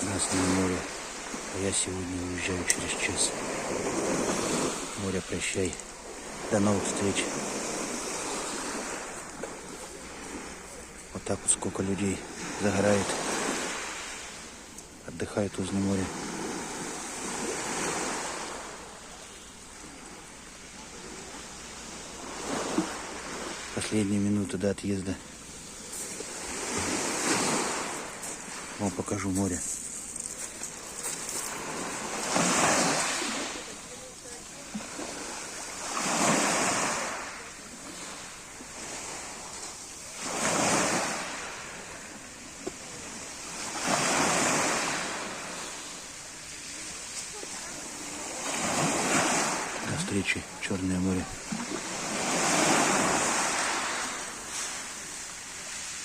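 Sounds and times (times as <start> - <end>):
wave breaking: 0.0 - 14.6, 25.1 - 56.0
surf washing onto shore: 0.0 - 56.0.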